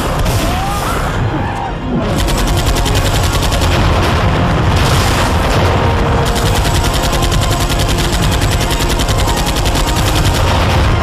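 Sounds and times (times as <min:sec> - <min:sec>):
machine-gun sound effect: 0:02.1 - 0:11.0.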